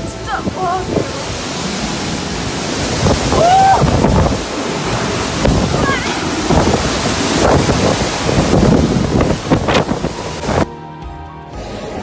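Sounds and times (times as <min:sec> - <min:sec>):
heavy rain: 0:00.0 - 0:10.7
strong wind buffeting microphone: 0:00.0 - 0:10.7.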